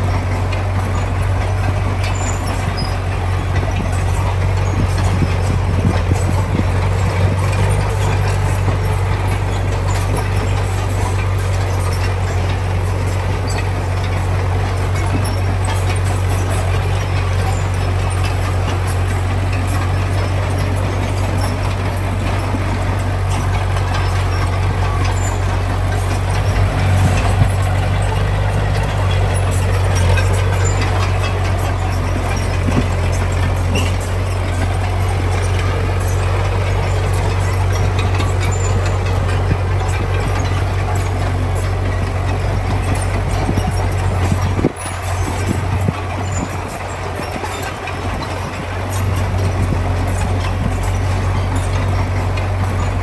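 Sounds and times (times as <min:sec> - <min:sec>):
diesel engine low drone: 0:00.0 - 0:53.0.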